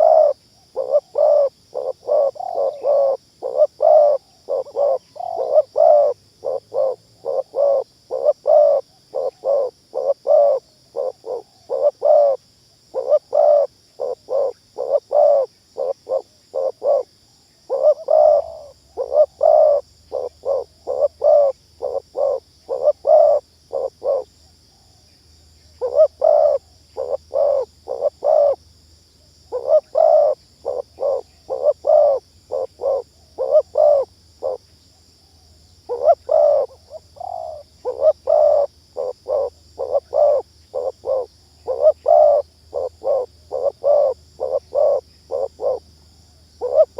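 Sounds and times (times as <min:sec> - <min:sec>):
dove cooing: 0:00.0 - 0:17.1, 0:17.7 - 0:24.3, 0:25.8 - 0:28.6, 0:29.4 - 0:34.6, 0:35.9 - 0:45.9, 0:46.6 - 0:46.9.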